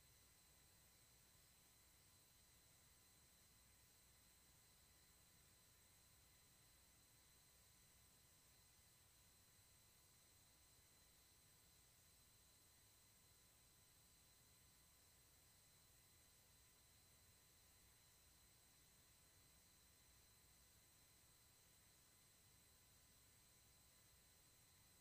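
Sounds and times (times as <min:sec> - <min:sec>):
faint recording hiss: 0:00.0 - 0:25.0.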